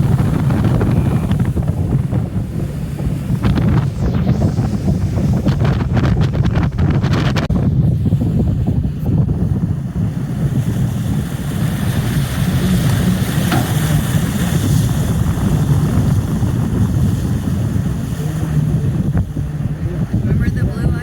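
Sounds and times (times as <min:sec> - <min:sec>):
boat engine rumble: 0:00.0 - 0:21.0
wind buffeting microphone: 0:00.0 - 0:21.0.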